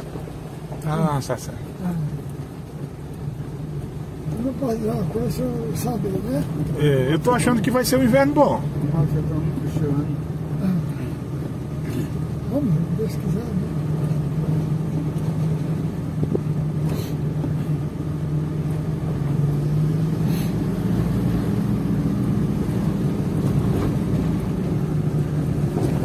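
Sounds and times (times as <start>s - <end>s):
car engine humming: 0.0s - 26.0s
car going over bumps: 0.0s - 26.0s.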